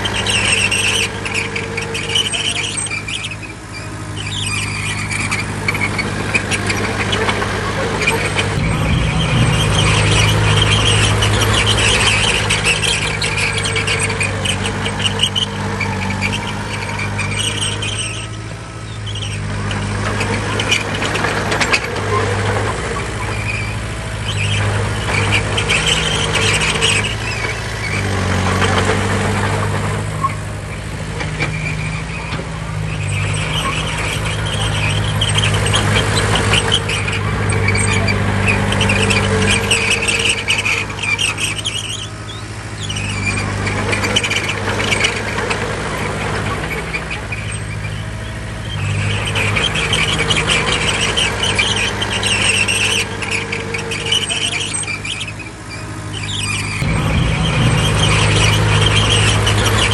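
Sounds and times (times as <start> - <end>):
bulldozer diesel engine under load: 0.0 - 59.9
steel tracks squealing: 0.0 - 59.9.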